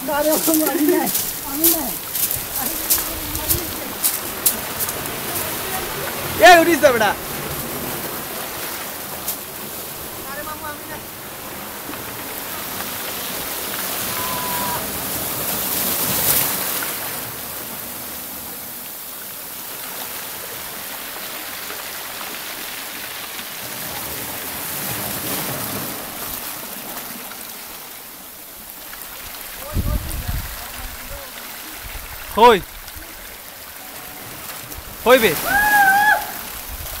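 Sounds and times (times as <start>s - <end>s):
surf washing over rocks: 0.0s - 37.0s.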